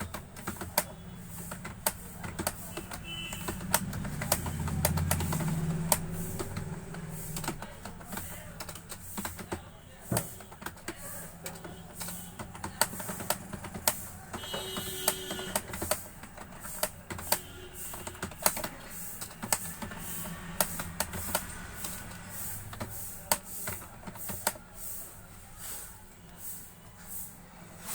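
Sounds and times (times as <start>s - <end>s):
computer keyboard keystroke clicks: 0.0s - 24.9s.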